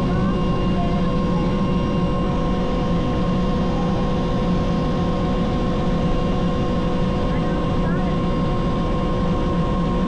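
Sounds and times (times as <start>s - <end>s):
helicopter engine and rotor drone: 0.0s - 10.0s.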